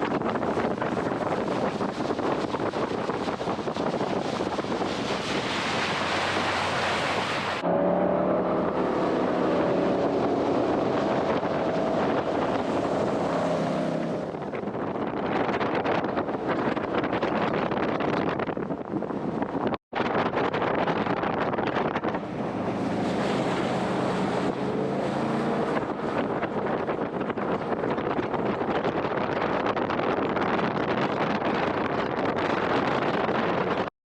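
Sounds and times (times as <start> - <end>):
jet boat engine: 0.0 - 32.8
rushing wind and water: 0.0 - 33.9.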